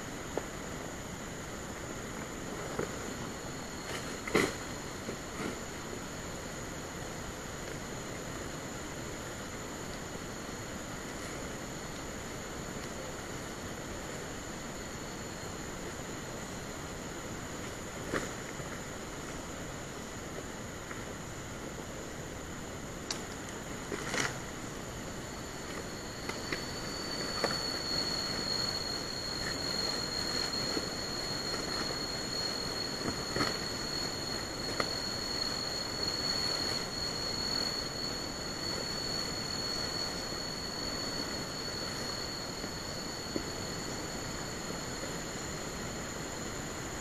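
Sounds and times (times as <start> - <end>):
high insect drone: 0.0 - 47.0
insects hissing: 0.0 - 47.0.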